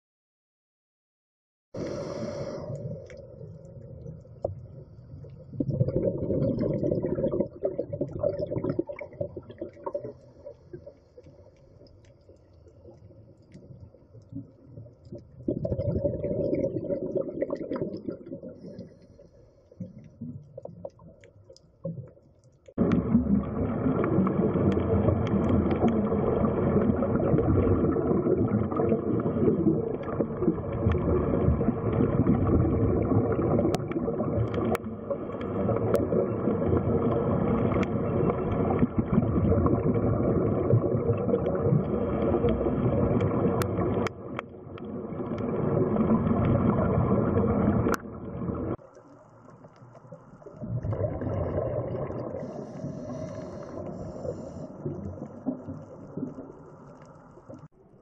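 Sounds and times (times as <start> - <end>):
muffled underwater rumbling: 1.8 - 10.8, 19.8 - 58.0.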